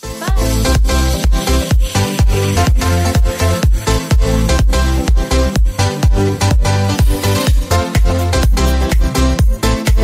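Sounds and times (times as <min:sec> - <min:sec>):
kick drum beat: 0:00.2 - 0:10.0.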